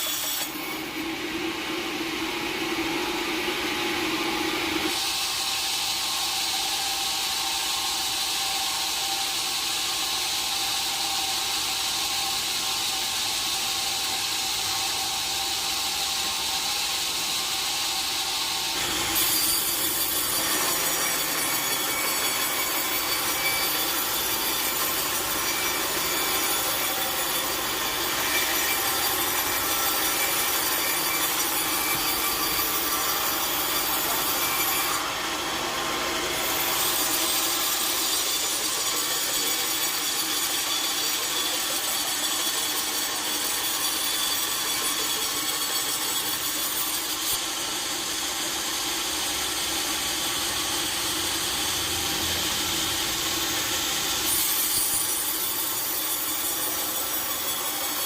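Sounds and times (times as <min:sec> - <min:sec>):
saw cutting through log: 0:00.0 - 0:58.0.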